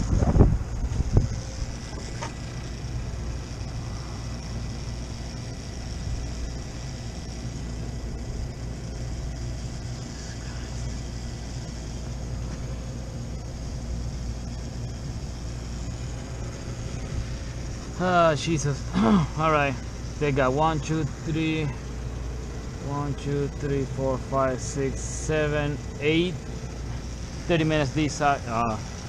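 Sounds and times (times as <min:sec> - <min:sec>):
condensing unit humming: 0:00.0 - 0:29.0
faint steady tones: 0:00.1 - 0:29.0.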